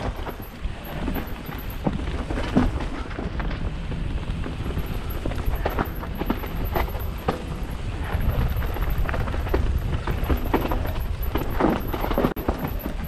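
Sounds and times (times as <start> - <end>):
bike knocks and rattles: 0.0 - 13.0
bike tyres rolling over stones: 0.0 - 13.0
wind rumble on microphone: 0.0 - 13.0.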